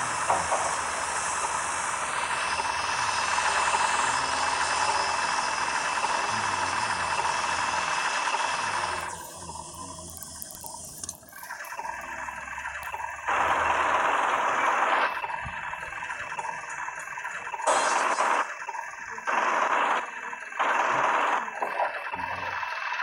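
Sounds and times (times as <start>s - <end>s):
excavator engine hum: 0.0s - 23.0s.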